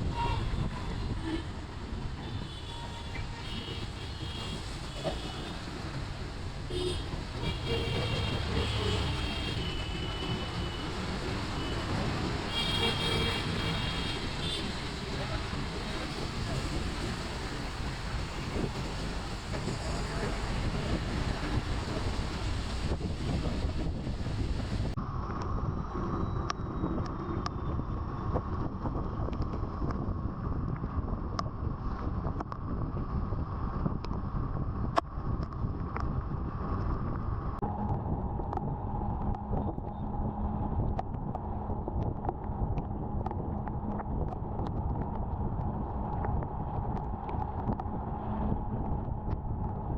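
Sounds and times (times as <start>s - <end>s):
road noise: 0.0s - 49.9s
wind buffeting microphone: 0.0s - 49.9s.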